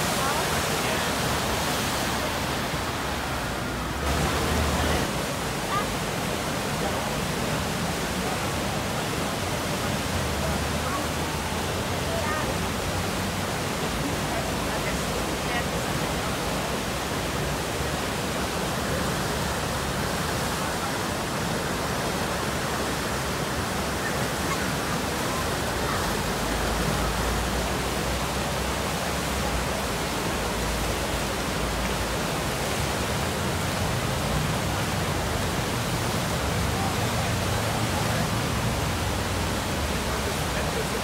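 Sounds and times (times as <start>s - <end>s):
whitewater rushing: 0.0s - 41.0s.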